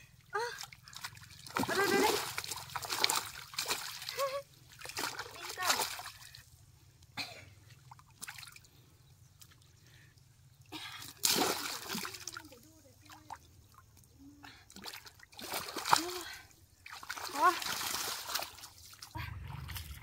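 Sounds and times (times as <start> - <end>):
muddy water splashing: 0.1 - 6.7, 7.6 - 20.0.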